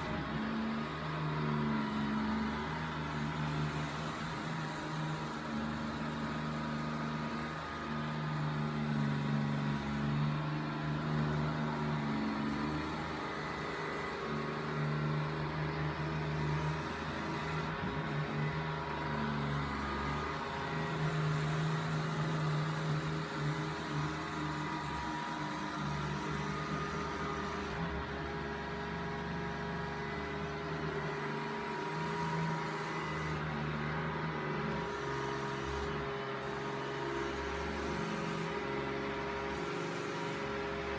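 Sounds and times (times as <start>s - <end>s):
robot vacuum motor hum: 0.0s - 40.9s.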